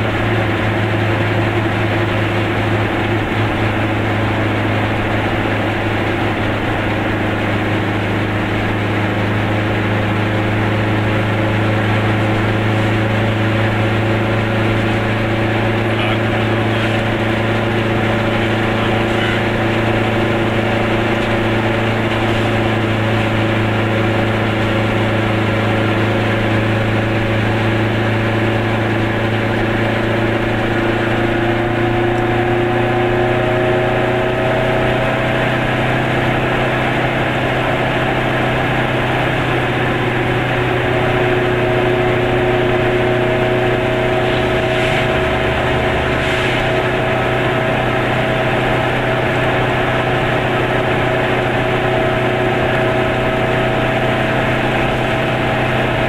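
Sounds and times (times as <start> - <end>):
car engine running: 0.0 - 56.0
tyre and road noise: 0.0 - 56.0.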